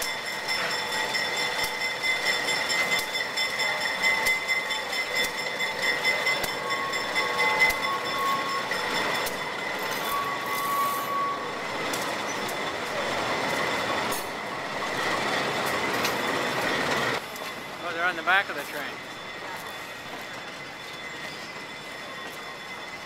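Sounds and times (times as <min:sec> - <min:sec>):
train wheels squealing on track: 0:00.0 - 0:23.0
wheels clicking over rails: 0:00.0 - 0:23.0.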